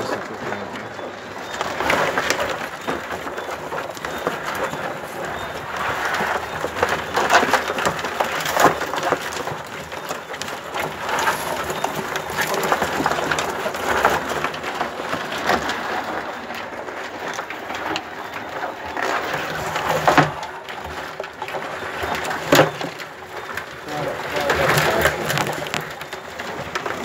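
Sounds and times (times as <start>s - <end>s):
crabs clattering in plastic barrel: 0.0s - 27.0s.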